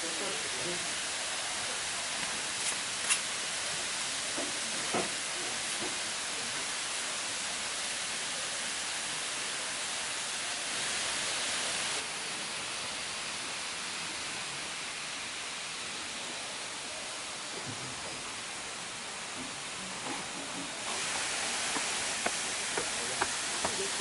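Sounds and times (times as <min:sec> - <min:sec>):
falling water hissing: 0:00.0 - 0:24.0.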